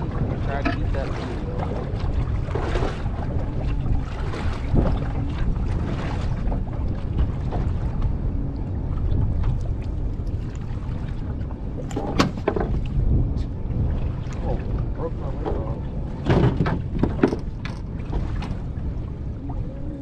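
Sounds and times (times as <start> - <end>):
water against a boat: 0.0 - 20.0
wind rumble on microphone: 0.0 - 20.0.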